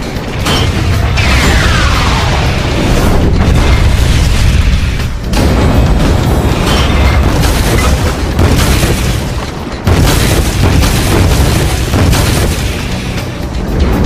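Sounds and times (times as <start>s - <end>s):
film music: 0.0s - 14.0s
heavy hits: 0.0s - 14.0s
deep booming rumbles: 0.4s - 14.0s.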